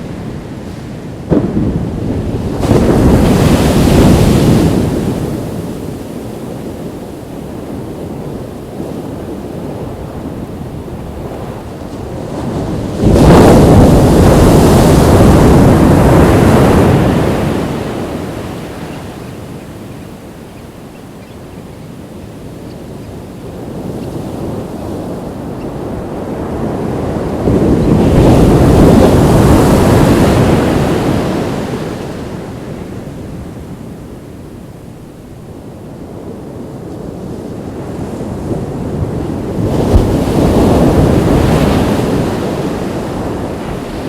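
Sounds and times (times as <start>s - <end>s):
ocean waves crashing: 0.0s - 44.0s
surf wash: 0.0s - 44.0s.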